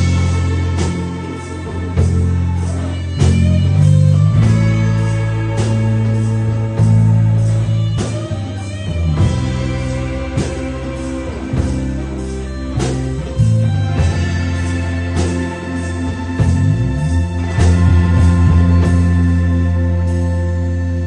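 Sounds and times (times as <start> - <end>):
instrumental rock music: 0.0 - 21.0.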